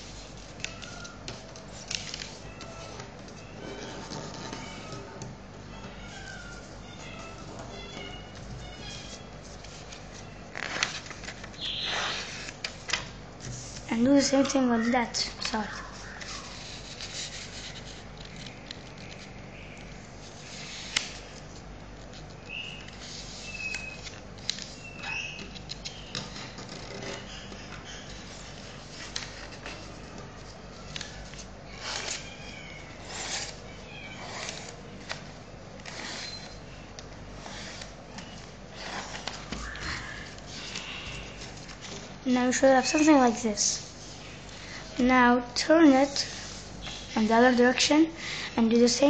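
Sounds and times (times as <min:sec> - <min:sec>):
paper crease crackles: 0:00.0 - 0:44.8, 0:46.0 - 0:47.8
paper rustling and crinkling: 0:00.0 - 0:44.8.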